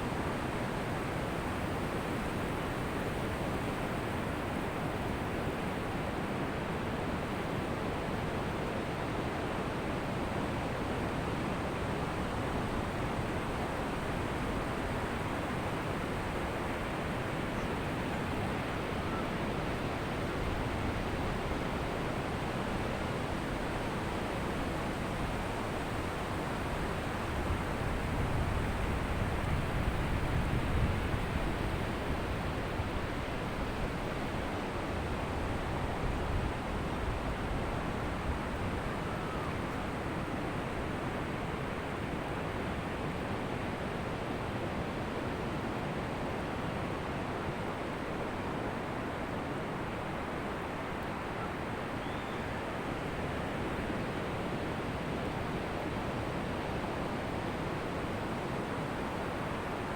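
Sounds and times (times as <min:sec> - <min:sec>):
ocean surf on beach: 0:02.6 - 0:59.9.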